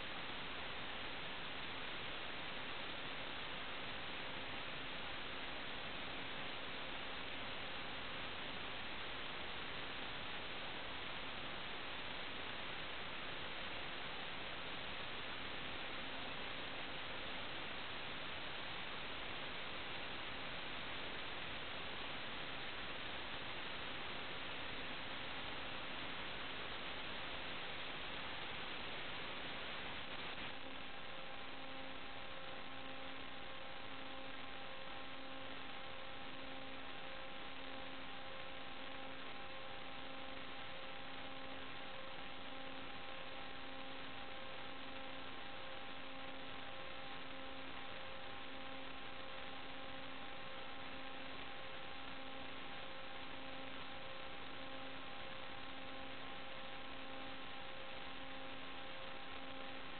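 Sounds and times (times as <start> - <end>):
electrical buzz with hiss: 0.0 - 59.9.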